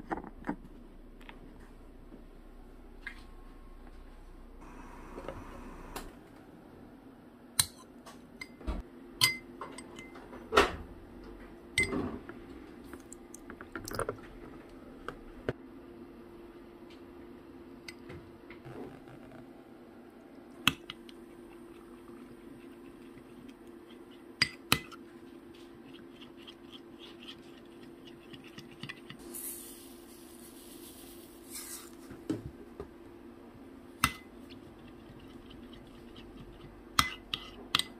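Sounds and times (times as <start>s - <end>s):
low steady hum: 0.0s - 37.9s.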